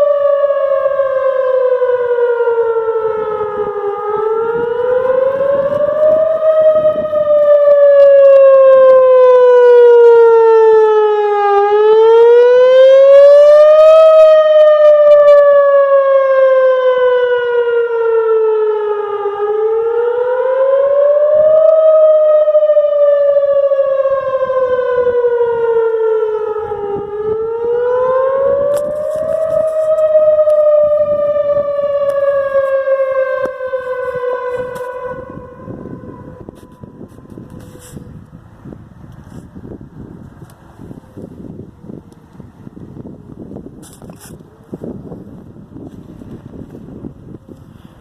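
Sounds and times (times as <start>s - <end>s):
warning siren wailing: 0.0s - 48.0s.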